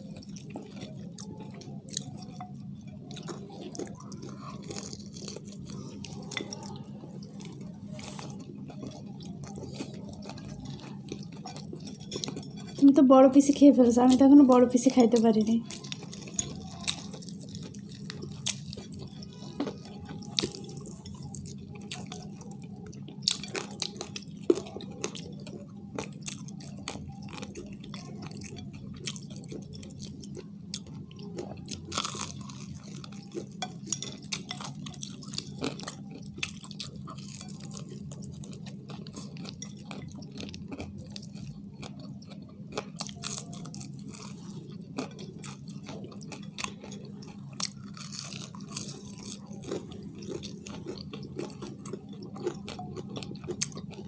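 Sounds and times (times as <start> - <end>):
crunchy chewing: 0.0 - 12.9, 13.5 - 54.0
steady low hum: 0.0 - 54.0.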